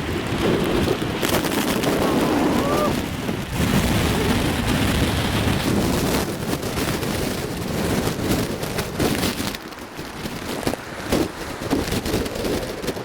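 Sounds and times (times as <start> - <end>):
heavy surf breaking on concrete: 0.0 - 13.0
strong wind buffeting microphone: 0.0 - 13.0.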